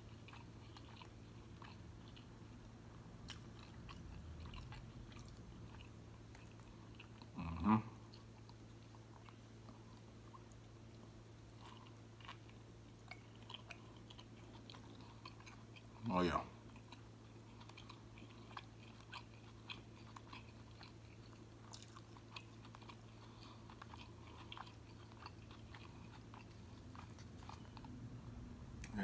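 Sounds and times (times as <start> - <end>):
biting into a taco: 0.2 - 28.1.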